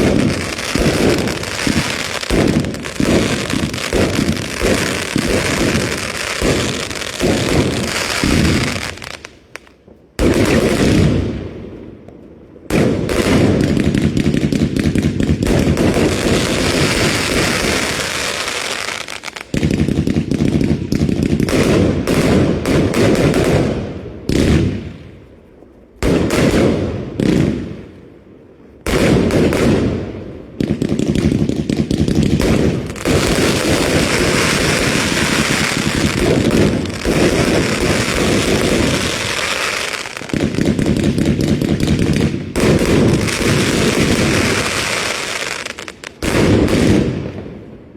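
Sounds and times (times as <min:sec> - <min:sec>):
fireworks banging and crackling: 0:00.0 - 0:47.9.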